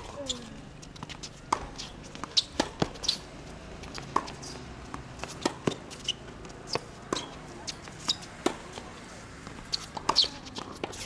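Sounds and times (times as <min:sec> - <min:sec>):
rackets striking tennis ball: 0:00.0 - 0:11.0
tennis ball bouncing on court: 0:00.0 - 0:11.0.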